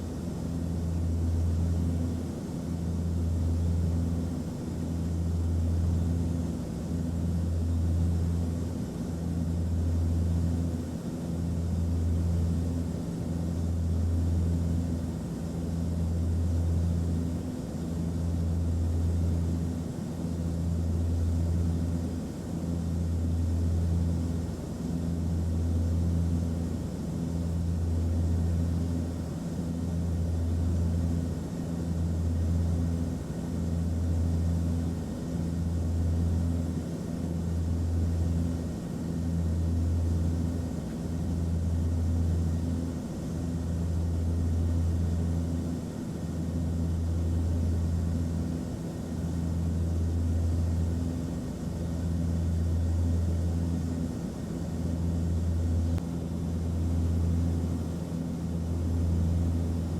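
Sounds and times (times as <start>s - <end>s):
engine and airflow rush: 0.0s - 59.9s.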